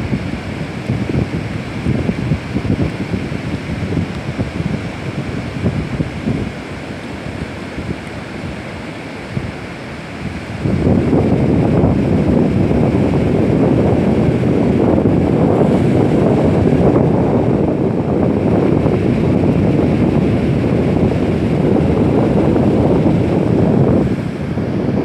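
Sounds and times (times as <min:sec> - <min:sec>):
ocean surf breaking: 0:00.0 - 0:25.0
wind buffeting microphone: 0:00.0 - 0:25.0.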